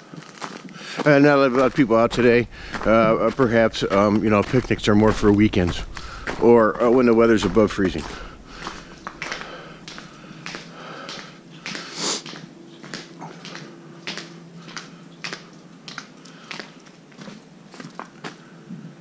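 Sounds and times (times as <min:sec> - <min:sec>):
footsteps in ice cleats: 0:00.0 - 0:18.8.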